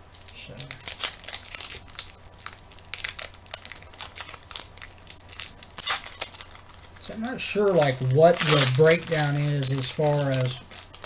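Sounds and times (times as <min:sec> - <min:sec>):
card pack wrappers crinkling: 0:00.0 - 0:11.0.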